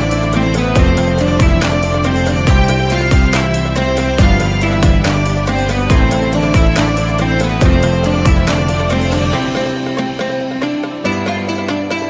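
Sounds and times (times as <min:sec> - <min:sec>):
thumping bass beat: 0:00.0 - 0:10.2.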